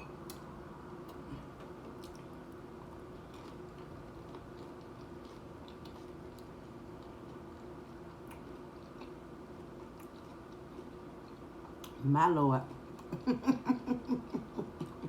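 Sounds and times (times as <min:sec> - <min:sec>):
chewing crunchy food: 0:00.2 - 0:13.2.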